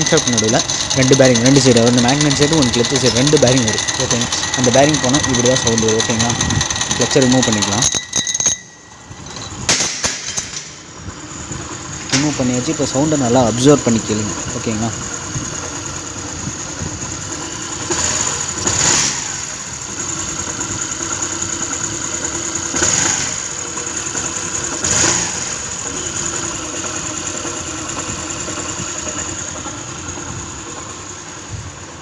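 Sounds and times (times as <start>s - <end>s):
scooter engine with high whine: 0.0s - 32.0s.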